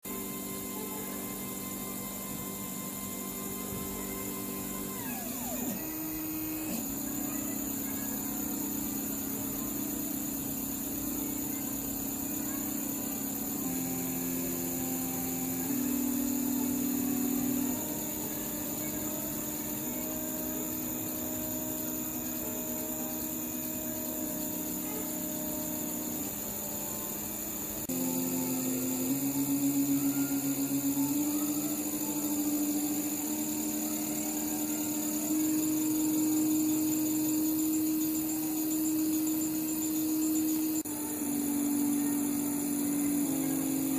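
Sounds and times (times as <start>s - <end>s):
thin high whine: 0.0s - 43.9s
stepper motors humming: 0.1s - 43.9s.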